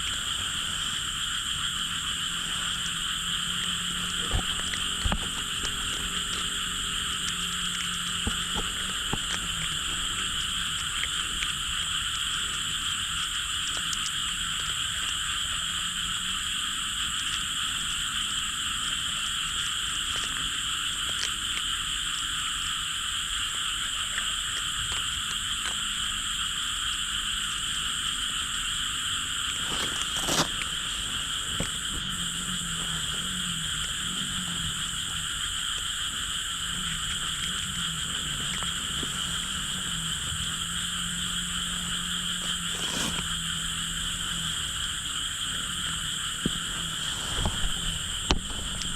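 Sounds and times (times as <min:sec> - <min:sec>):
frogs calling: 0:00.0 - 0:48.9.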